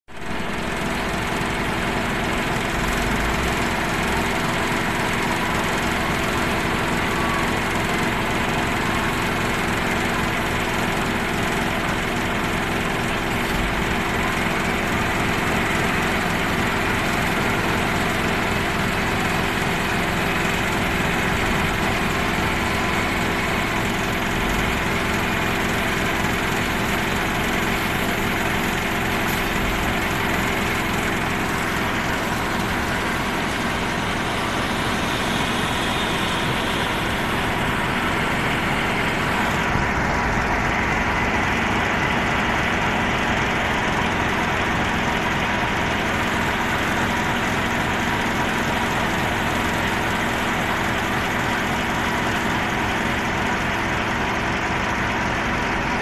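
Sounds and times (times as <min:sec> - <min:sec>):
diesel machinery engine running: 0:00.1 - 0:56.0.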